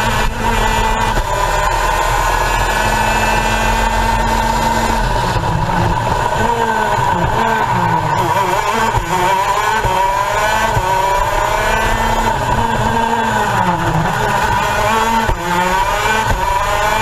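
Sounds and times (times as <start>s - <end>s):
kart engine at full throttle: 0.0s - 17.0s.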